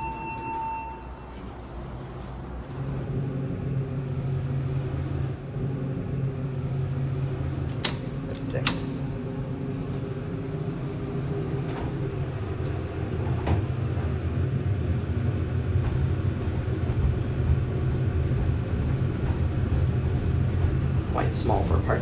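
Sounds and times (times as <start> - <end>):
elevator hum and rumble: 0.0 - 22.0.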